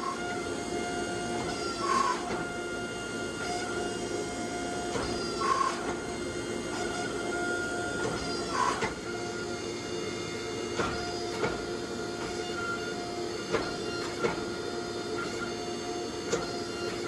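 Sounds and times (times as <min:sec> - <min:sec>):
forge mechanical hum: 0:00.0 - 0:17.0.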